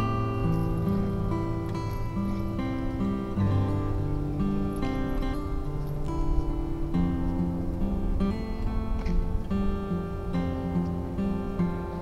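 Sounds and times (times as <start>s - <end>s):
acoustic guitar plucked melody: 0.0s - 12.0s.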